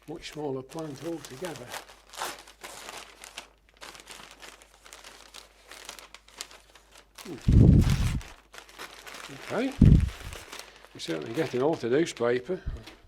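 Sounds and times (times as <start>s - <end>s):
paper crumpling and rustling: 0.0s - 13.0s.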